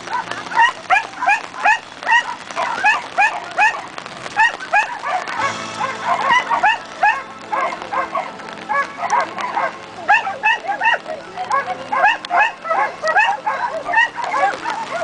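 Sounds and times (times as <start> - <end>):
dog yapping: 0.0 - 15.0.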